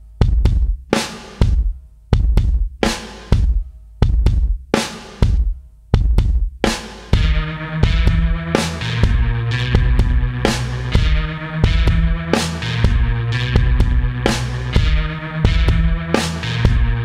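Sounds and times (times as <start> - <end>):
sustained bass and chords: 0.0 - 4.6, 5.2 - 17.0
drum kit beat: 0.0 - 17.0.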